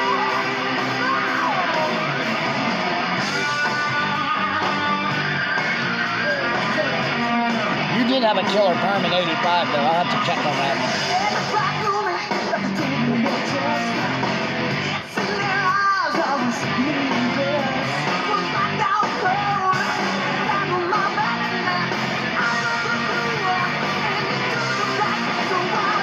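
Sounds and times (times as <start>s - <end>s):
electric guitar: 0.0s - 26.0s
rock singer: 0.0s - 26.0s.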